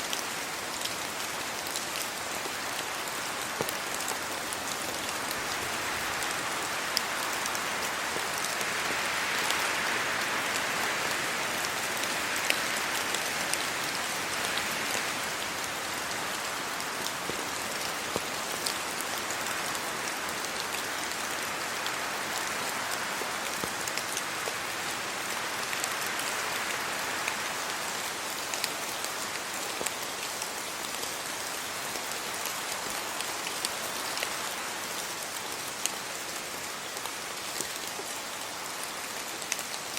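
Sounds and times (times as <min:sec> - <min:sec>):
rain on trees and road: 0:00.0 - 0:39.9.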